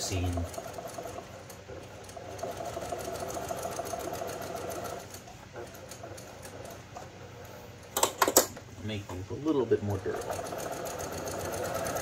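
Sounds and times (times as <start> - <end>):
sewing machine stitching fabric: 0.0 - 8.4, 9.5 - 12.0.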